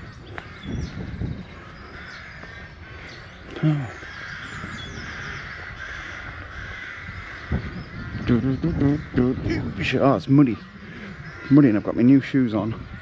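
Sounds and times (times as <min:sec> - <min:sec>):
crows cawing: 0:00.0 - 0:13.0
small birds chirping: 0:00.0 - 0:13.0.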